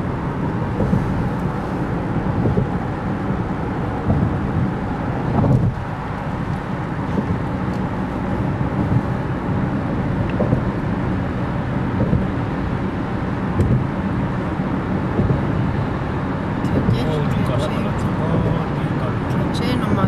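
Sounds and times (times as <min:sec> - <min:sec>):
road noise inside car: 0:00.0 - 0:20.0.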